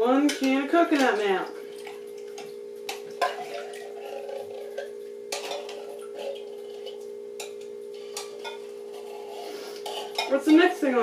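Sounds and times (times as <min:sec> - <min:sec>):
steady low hum: 0:00.0 - 0:11.0
kitchen utensils clicking and knocking: 0:00.2 - 0:09.2.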